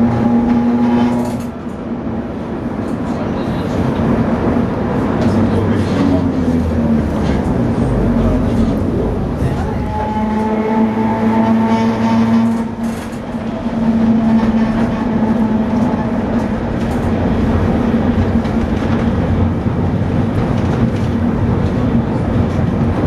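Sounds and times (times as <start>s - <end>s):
tram running hum and rumble: 0.0s - 23.0s.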